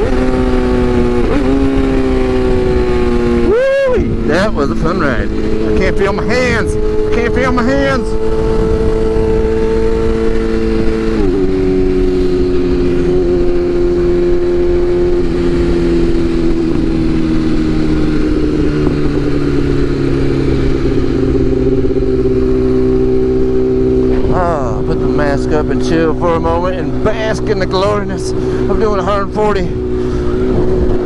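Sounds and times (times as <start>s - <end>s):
motorcycle engine running: 0.0s - 31.0s
wind rush: 0.0s - 31.0s.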